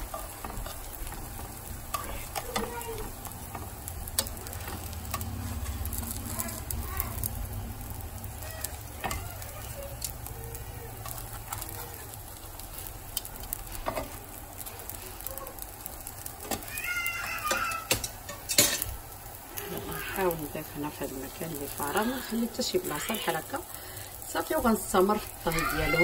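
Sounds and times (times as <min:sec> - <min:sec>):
spring rolls sizzling in a pan: 0:00.0 - 0:26.0.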